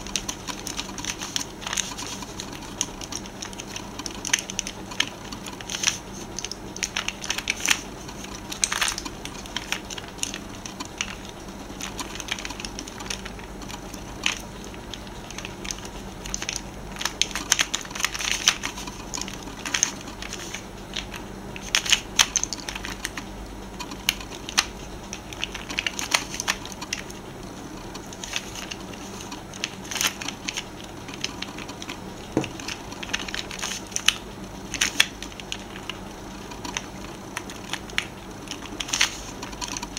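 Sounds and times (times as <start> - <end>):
plastic puzzle clicking: 0.0 - 27.2, 28.0 - 39.9.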